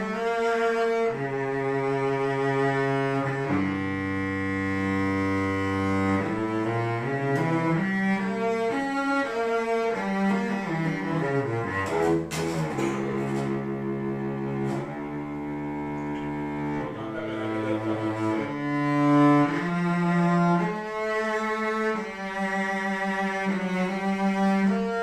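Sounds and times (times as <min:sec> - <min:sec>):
bowed cello melody: 0:00.0 - 0:25.0.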